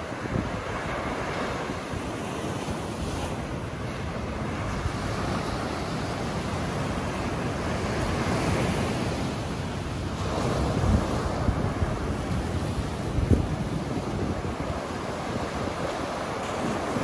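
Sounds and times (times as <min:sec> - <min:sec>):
small waves breaking on sand: 0:00.0 - 0:17.0
wind buffeting microphone: 0:00.0 - 0:17.0.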